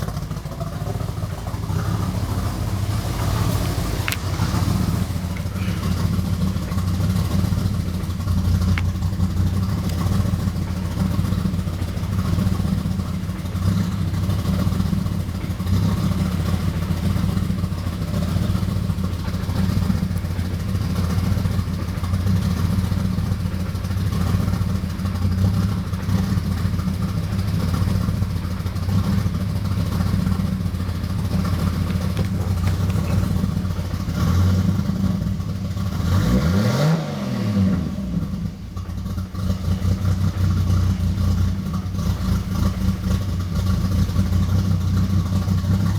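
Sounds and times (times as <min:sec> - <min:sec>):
car engine deep exhaust note: 0:00.0 - 0:45.9.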